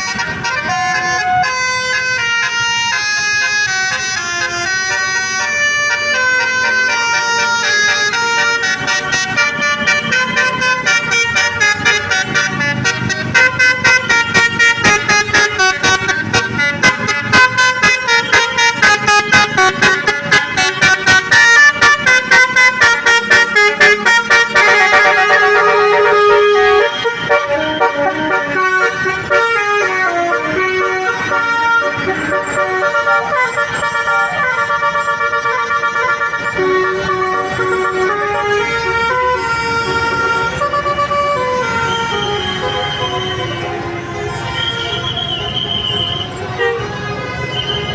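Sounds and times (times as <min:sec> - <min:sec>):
bus multi-note horn tune: 0:00.0 - 0:47.9.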